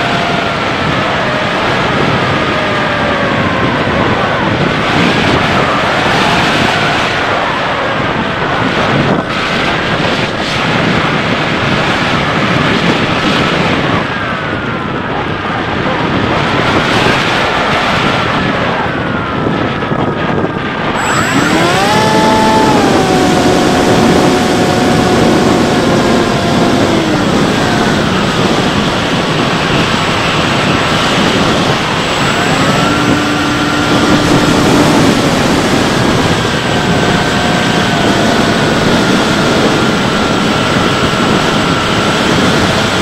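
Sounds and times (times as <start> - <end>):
electric motor and propeller whine: 0.0 - 43.0
wind rushing over camera: 0.0 - 43.0.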